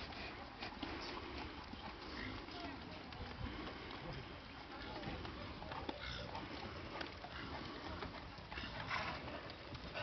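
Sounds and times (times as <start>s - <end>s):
hoofbeats of horse trotting on sand: 0.0s - 10.0s
outdoor background noise: 0.0s - 10.0s.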